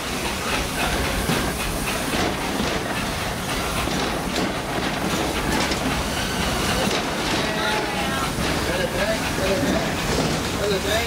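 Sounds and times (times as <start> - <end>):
steam hissing: 0.0 - 11.0
train cars running on track: 0.0 - 11.0
wheel clicks over rails: 0.0 - 11.0.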